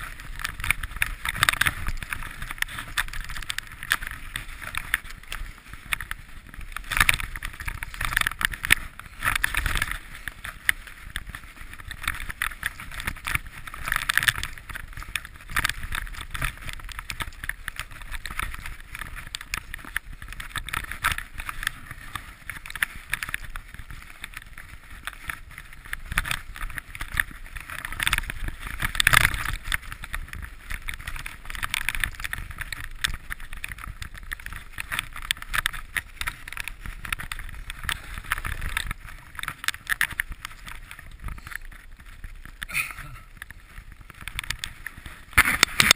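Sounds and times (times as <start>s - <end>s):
bike rattling and knocking: 0.0s - 45.9s
bike tyre rumble on dirt: 0.0s - 45.9s.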